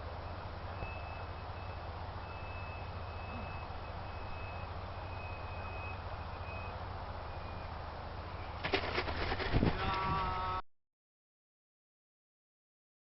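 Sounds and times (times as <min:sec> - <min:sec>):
distant model aircraft whine: 0:00.0 - 0:10.6.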